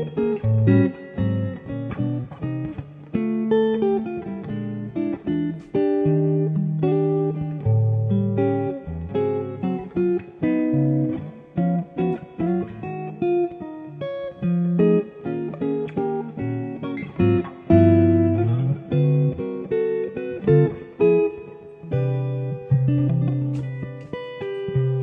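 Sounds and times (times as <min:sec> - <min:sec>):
solo guitar improvisation: 0:00.0 - 0:25.0.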